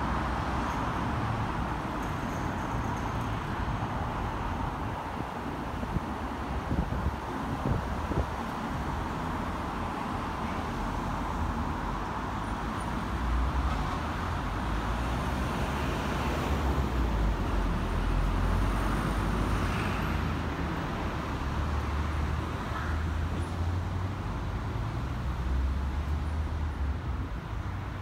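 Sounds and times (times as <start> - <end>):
vehicles passing: 0.0 - 28.0.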